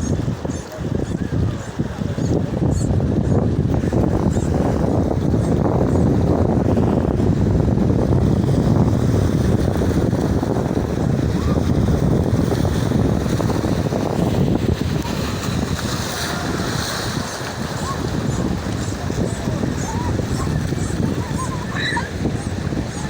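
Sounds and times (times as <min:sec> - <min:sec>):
sea waves washing in: 0:00.0 - 0:23.0
wind buffeting microphone: 0:00.0 - 0:23.0.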